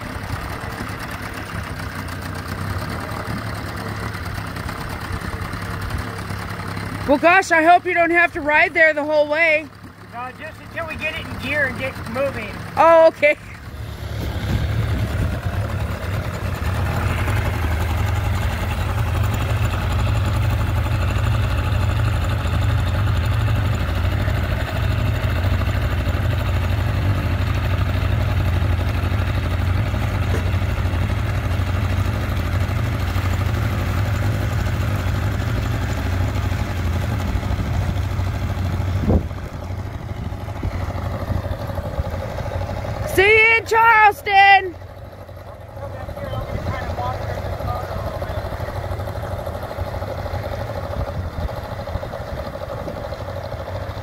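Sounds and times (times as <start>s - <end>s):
outboard motor running: 0.0s - 54.0s
propeller churning water: 0.0s - 54.0s.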